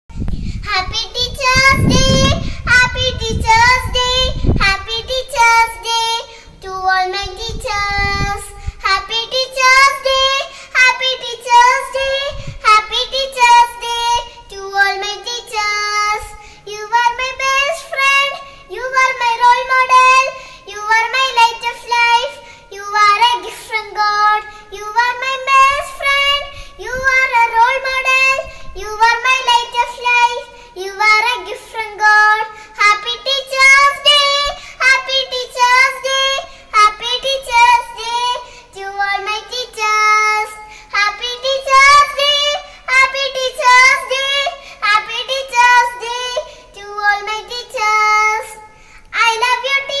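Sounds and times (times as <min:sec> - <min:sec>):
child singing: 0:00.6 - 0:50.0.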